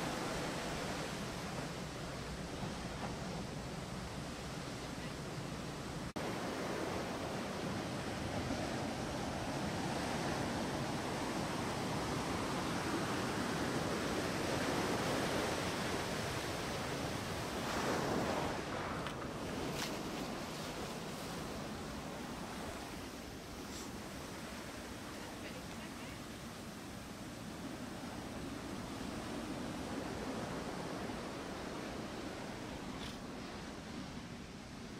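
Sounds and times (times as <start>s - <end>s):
surf waves breaking on beach: 0.0s - 34.9s.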